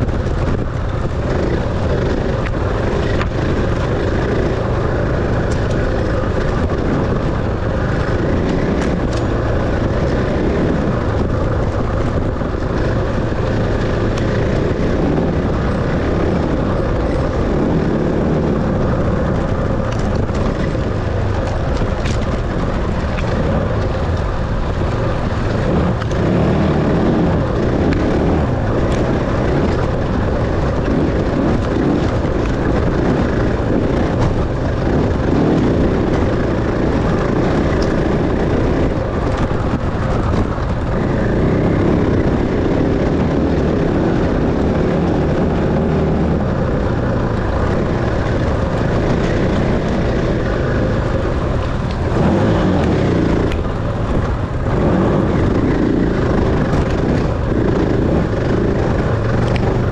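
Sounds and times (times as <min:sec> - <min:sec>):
dirt bike engine revving: 0:00.0 - 0:59.9
steady rushing noise: 0:00.0 - 0:59.9.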